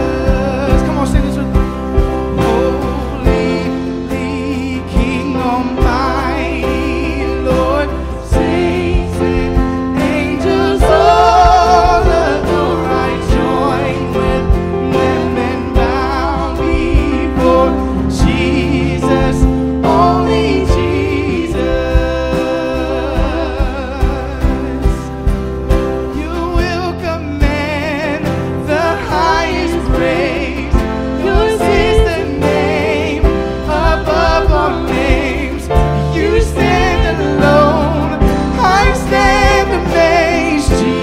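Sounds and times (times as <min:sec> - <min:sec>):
band chords: 0:00.0 - 0:41.0
person singing with vibrato: 0:00.0 - 0:41.0
steady drum beat: 0:00.0 - 0:41.0.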